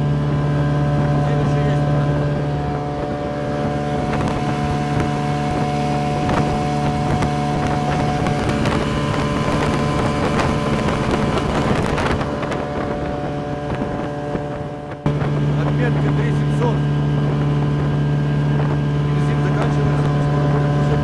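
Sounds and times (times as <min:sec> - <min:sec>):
outboard motor running: 0:00.0 - 0:21.0
water rushing along hull: 0:00.0 - 0:21.0
wind on microphone: 0:00.0 - 0:21.0.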